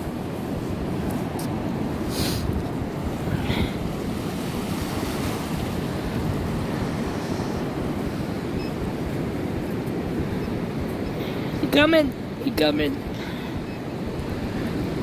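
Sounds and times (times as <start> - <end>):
surf washing up the beach: 0.0 - 15.0
wind buffeting the microphone: 0.0 - 15.0.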